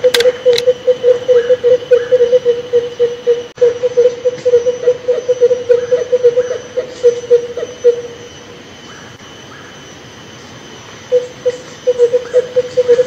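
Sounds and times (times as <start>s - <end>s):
barbet calling: 0.0s - 9.9s, 11.0s - 13.0s.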